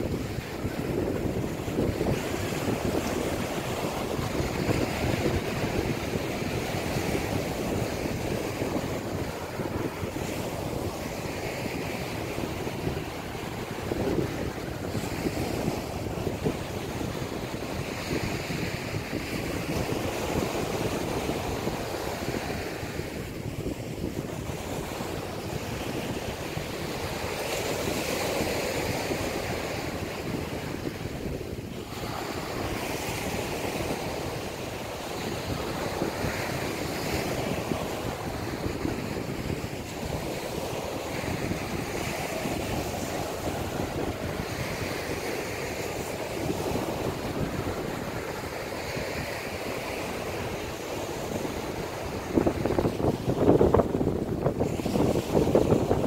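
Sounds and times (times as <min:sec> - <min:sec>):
small waves breaking on shore: 0:00.0 - 0:56.0.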